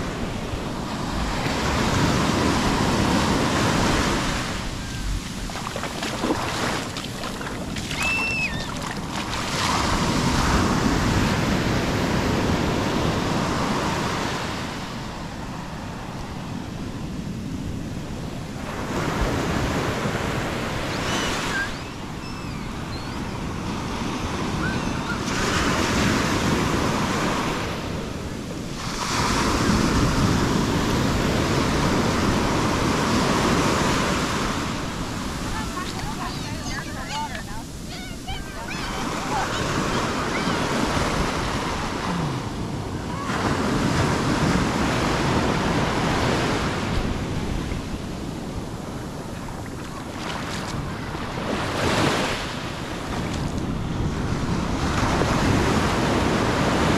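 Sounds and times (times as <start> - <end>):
surf breaking on sand: 0.0 - 15.6, 23.6 - 56.9.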